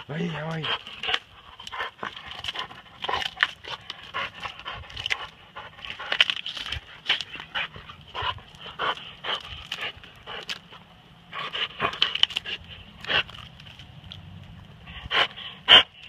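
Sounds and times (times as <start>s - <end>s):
dog panting: 0.0s - 13.4s, 14.8s - 16.0s
dog gnawing wood with cracks: 0.0s - 16.0s.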